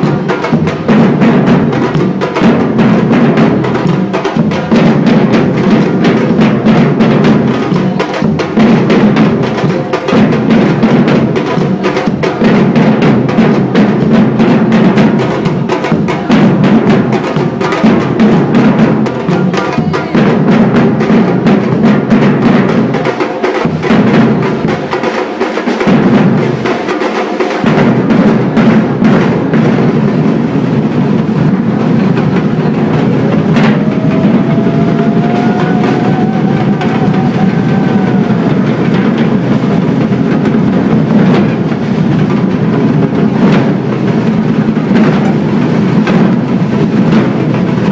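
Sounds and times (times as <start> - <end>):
deep bass drums: 0.0 - 23.0, 27.7 - 47.9
percussion ensemble drumming: 0.0 - 47.9.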